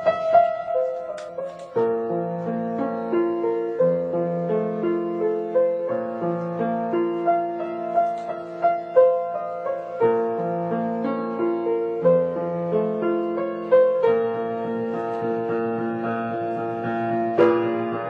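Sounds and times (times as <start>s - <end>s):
solo piano classical piece: 0.0s - 18.0s.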